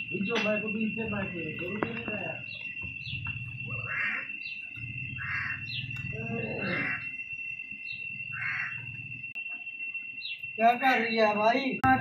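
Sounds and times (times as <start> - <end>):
constant high whine: 0.0 - 12.0
small birds chirping: 0.0 - 12.0.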